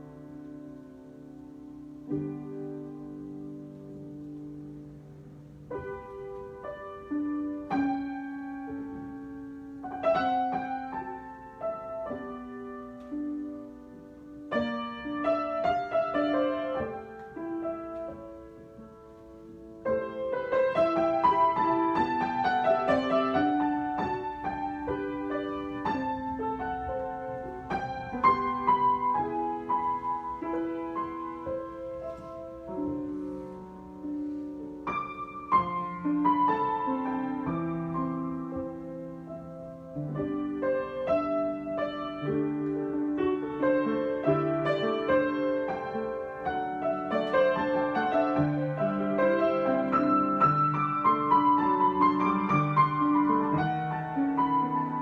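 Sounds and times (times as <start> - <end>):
solo piano improvisation: 0.0 - 55.0.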